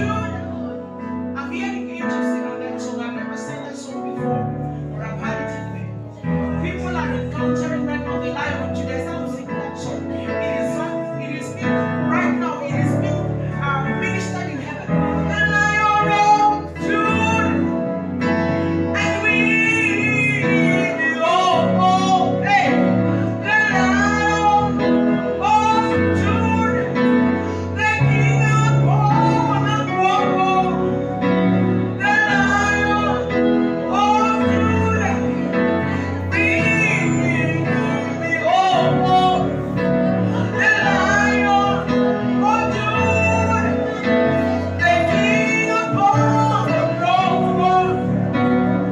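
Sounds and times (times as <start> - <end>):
instrumental backing with bass: 0.0 - 48.9
person singing: 8.1 - 48.9.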